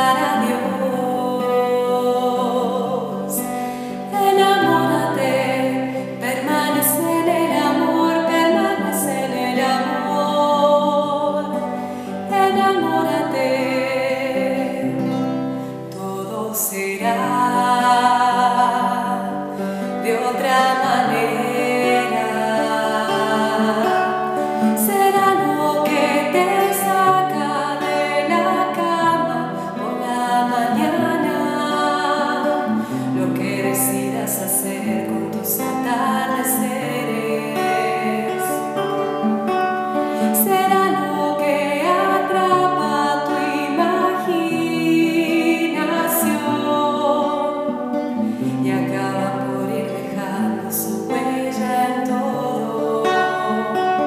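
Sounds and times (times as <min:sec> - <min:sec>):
nylon-string guitar: 0:00.0 - 0:54.0
woman singing: 0:00.0 - 0:54.0.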